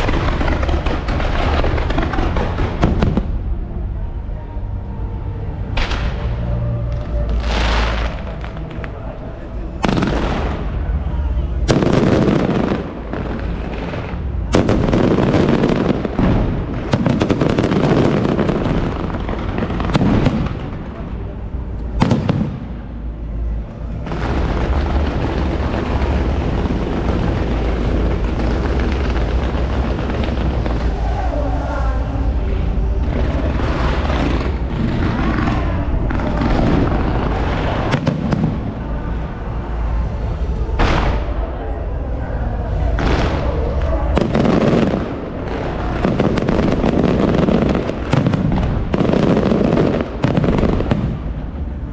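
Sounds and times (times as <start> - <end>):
fireworks bangs and booms: 0.0 - 3.9, 5.6 - 41.7, 42.7 - 51.9
fireworks crackling: 0.0 - 51.9.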